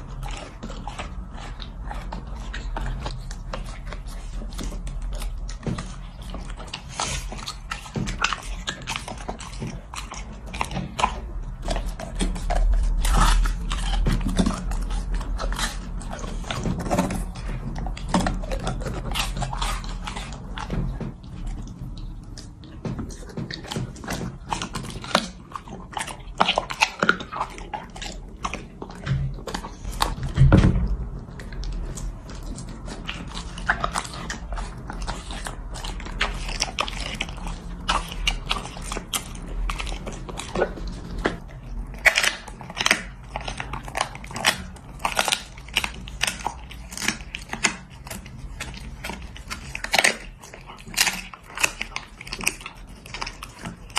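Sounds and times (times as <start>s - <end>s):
dog chomping and crunching: 0.0s - 53.9s.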